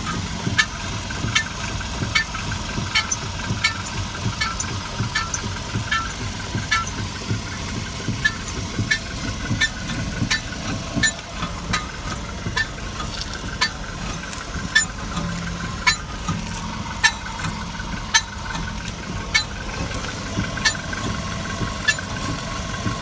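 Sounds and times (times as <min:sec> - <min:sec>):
car engine idling: 0:00.0 - 0:23.0
steering creaking and clicking: 0:00.0 - 0:23.0.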